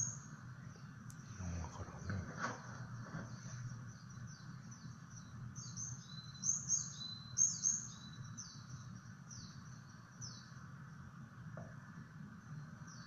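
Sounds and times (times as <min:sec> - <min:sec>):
songbird singing: 0:00.0 - 0:13.0
steady low hum: 0:00.0 - 0:13.0.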